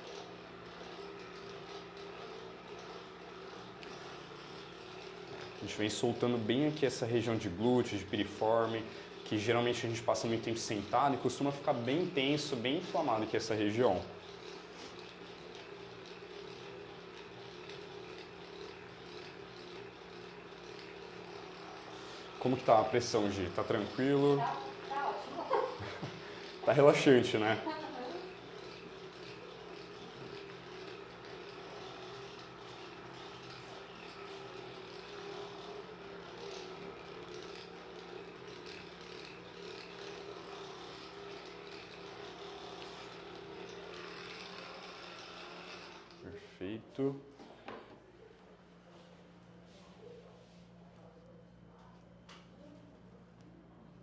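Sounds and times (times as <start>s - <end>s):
electric massager humming: 0.0s - 54.0s.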